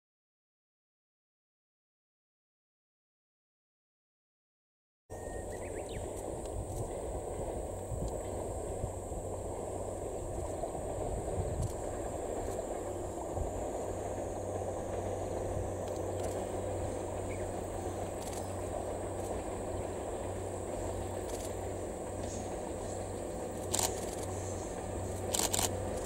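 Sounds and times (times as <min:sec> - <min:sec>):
distant locomotive rumble: 0:05.1 - 0:26.0
insects droning: 0:05.1 - 0:26.0.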